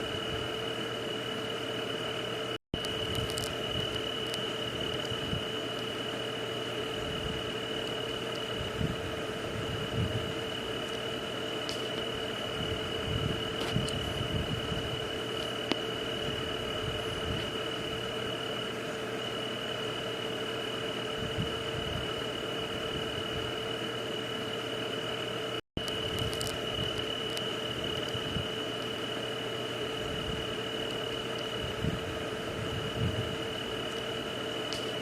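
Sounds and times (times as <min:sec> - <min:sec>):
insects trilling: 0:00.0 - 0:35.0
low hum: 0:00.0 - 0:35.0.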